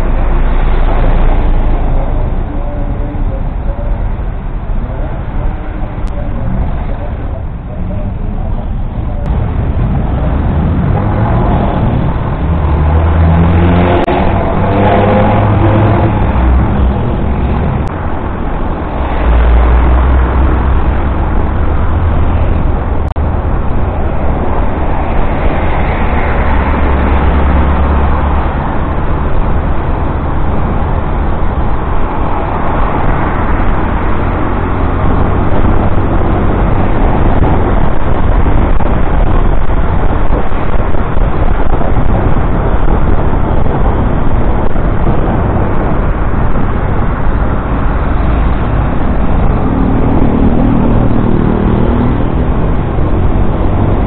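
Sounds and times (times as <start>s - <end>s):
low wind rumble on microphone: 0.0s - 54.0s
motorcycle wind and road noise: 0.0s - 54.0s.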